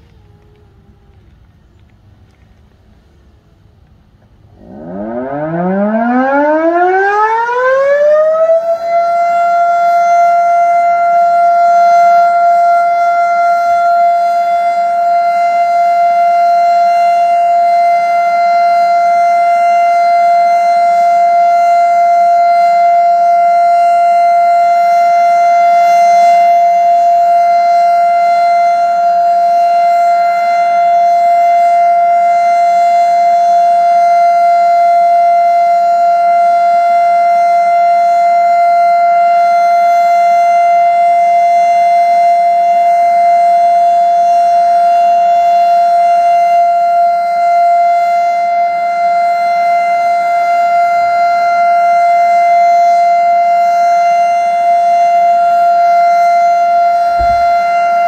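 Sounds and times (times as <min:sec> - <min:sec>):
warning siren winding up: 0:04.6 - 0:58.0.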